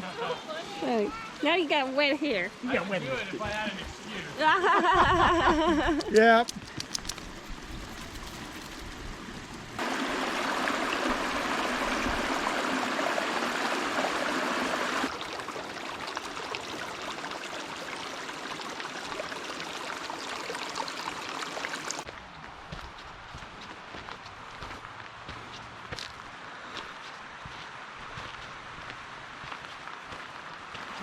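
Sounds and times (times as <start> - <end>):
creek running over rocks: 0.0 - 4.6, 5.7 - 31.0.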